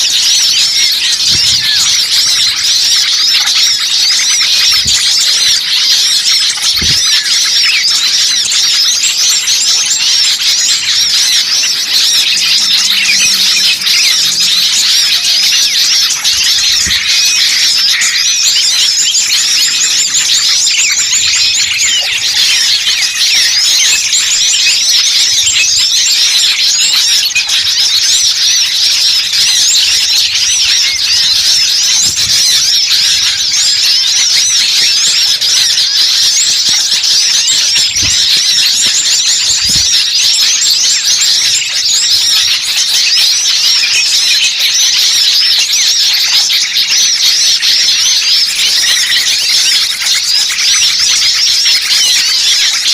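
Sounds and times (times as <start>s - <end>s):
songbirds chorus chirping: 0.0s - 52.9s.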